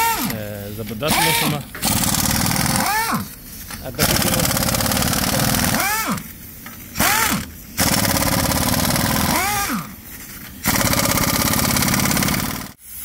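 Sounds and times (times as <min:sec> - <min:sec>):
pneumatic impact wrench rattling: 0:00.0 - 0:13.0.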